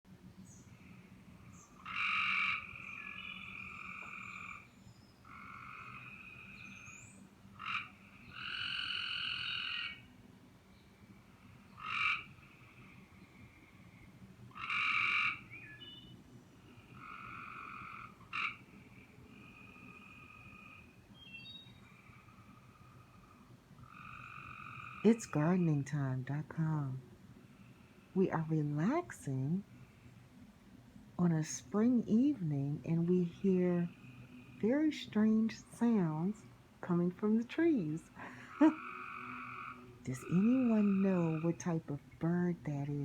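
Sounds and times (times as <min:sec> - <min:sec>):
tree frogs trilling: 0:00.5 - 0:10.2, 0:11.0 - 0:30.4, 0:31.2 - 0:43.0.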